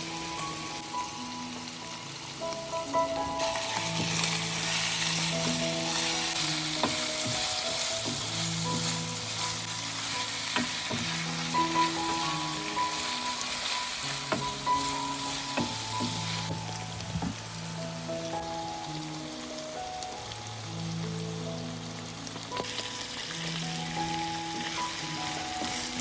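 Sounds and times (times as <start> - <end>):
food sizzling in pan: 0.0 - 26.0
soft background music: 0.0 - 26.0.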